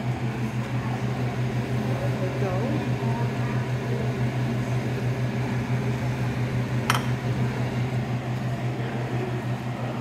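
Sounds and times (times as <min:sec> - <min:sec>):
appliance motor humming: 0:00.0 - 0:10.0.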